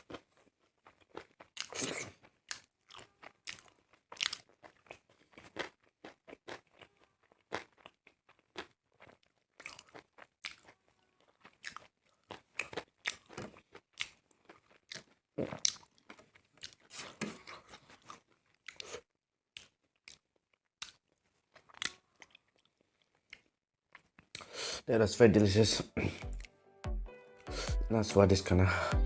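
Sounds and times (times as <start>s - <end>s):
person chewing and crunching food: 0.0s - 24.7s, 26.0s - 26.6s.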